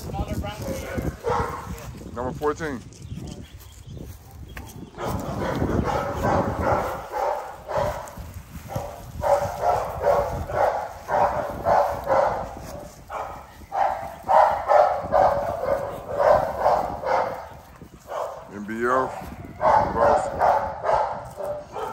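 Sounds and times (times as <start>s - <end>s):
dog barking: 0.7s - 1.8s, 4.2s - 21.9s.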